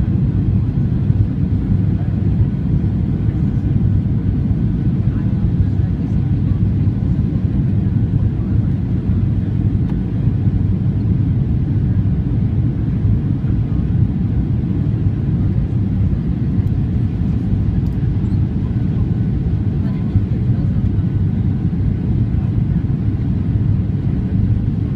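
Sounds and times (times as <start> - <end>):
jet engine rumble: 0.0 - 24.9.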